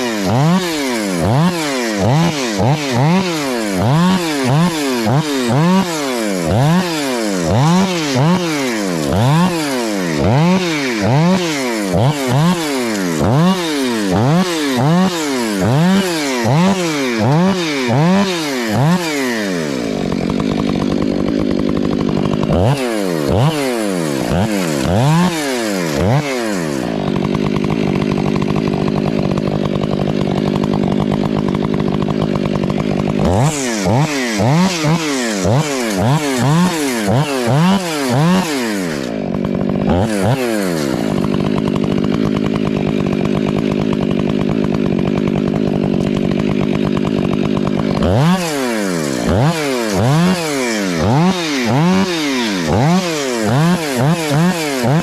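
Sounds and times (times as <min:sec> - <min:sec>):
two-stroke chainsaw revving: 0:00.0 - 0:55.0.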